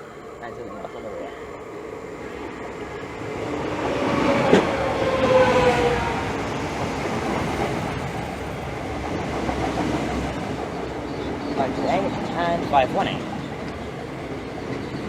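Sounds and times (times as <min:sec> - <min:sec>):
train wheel and rail rumble: 0:00.0 - 0:15.0.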